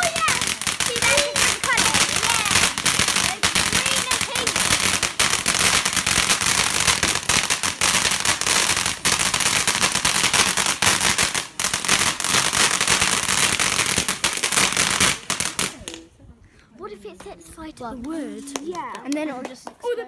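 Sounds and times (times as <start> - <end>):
firework crackling: 0.0 - 16.1.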